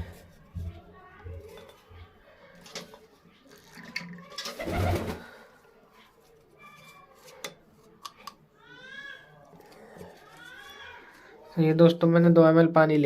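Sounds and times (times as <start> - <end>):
rustling: 0.0 - 11.6.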